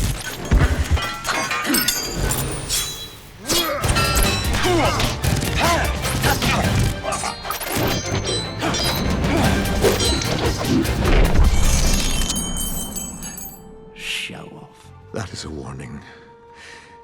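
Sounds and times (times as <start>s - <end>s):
dramatic music: 3.3s - 17.0s.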